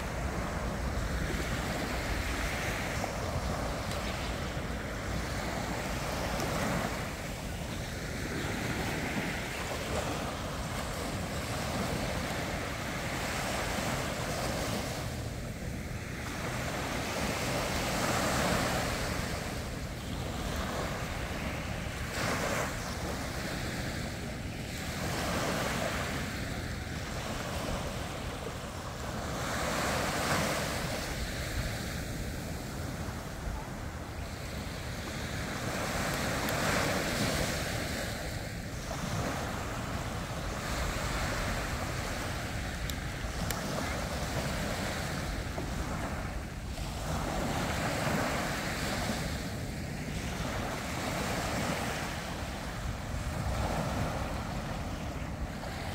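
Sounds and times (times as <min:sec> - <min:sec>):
small waves breaking on sand: 0:00.0 - 0:55.9.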